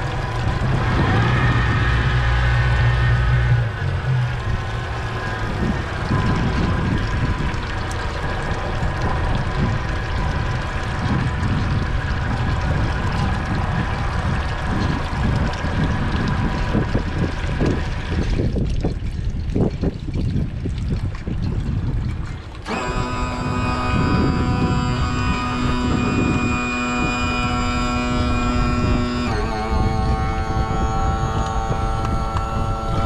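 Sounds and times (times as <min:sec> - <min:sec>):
steady whine: 0:00.0 - 0:19.6, 0:21.8 - 0:33.0
boat engine running: 0:00.0 - 0:33.0
water splashing and gurgling: 0:00.0 - 0:33.0.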